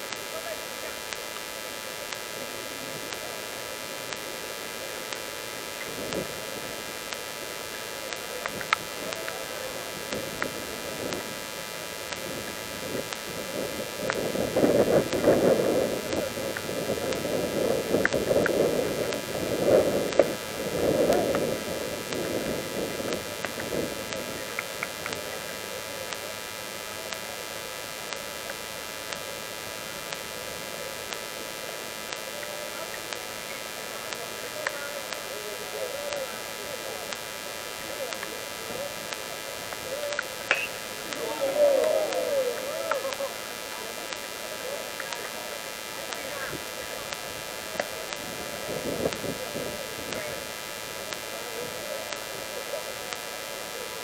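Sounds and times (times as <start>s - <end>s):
faint clicks: 0.0s - 54.0s
faint electrical whine: 0.0s - 54.0s
muffled irregular sounds: 0.0s - 54.0s
static hiss: 0.0s - 54.0s.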